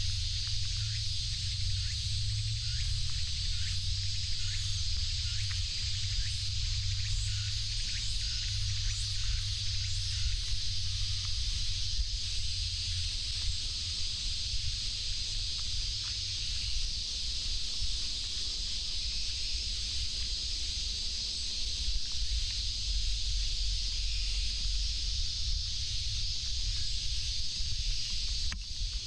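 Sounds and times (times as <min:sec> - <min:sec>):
cicadas droning: 0:00.0 - 0:29.0.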